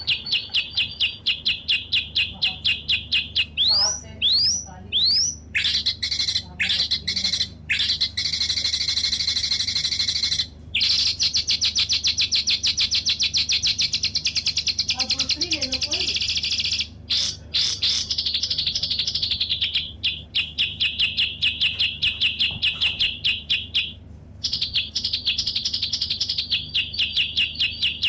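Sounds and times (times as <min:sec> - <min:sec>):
small bird singing: 0:00.0 - 0:28.0.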